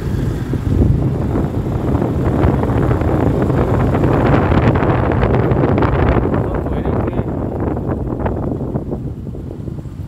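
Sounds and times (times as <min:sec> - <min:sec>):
vehicle running noise: 0:00.0 - 0:10.0
wind buffeting microphone: 0:00.0 - 0:10.0.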